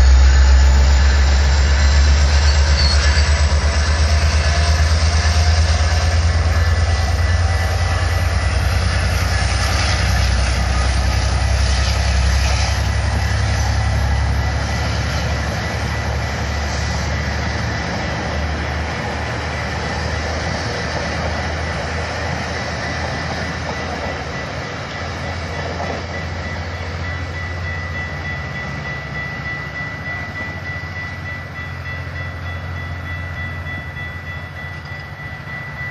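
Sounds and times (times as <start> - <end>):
train rumbling past on rails: 0.0 - 35.9.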